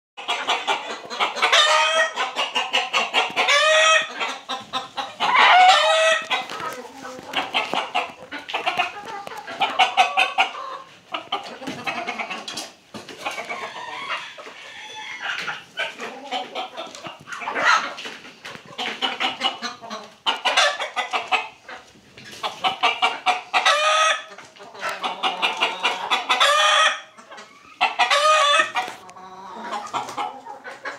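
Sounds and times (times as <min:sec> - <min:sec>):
chickens clucking: 0:00.2 - 0:30.9
drawn-out chicken calls: 0:00.2 - 0:30.9.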